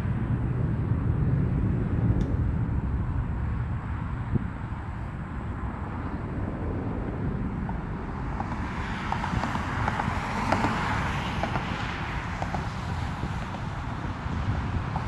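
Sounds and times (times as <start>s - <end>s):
jet airliner passing: 0.0s - 15.0s
wind on microphone: 0.0s - 15.0s.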